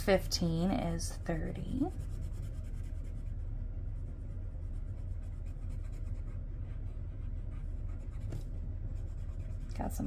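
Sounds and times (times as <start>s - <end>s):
steady low hum: 0.0s - 10.0s
colored pencil scratching on paper: 0.5s - 3.4s, 4.5s - 10.0s.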